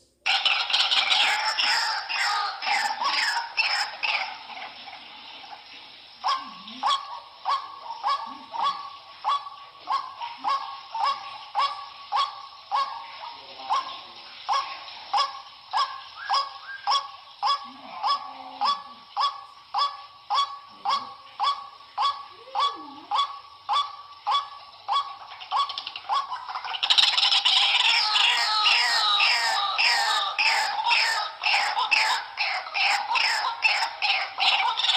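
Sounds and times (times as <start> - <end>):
waterhen calling: 0.2 - 34.9.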